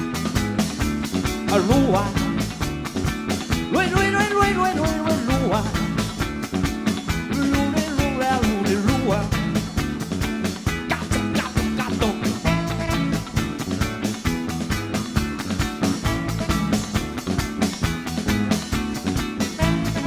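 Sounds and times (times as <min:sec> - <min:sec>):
quick drum beat: 0:00.0 - 0:20.0
rock band playing: 0:00.0 - 0:20.0.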